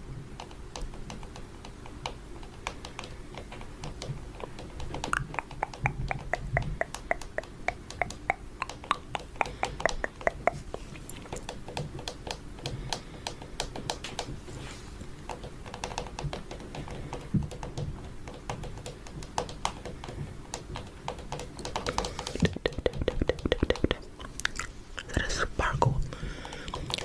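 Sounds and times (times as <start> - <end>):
fingernails tapping on camera: 0.4 - 14.4, 15.3 - 24.0.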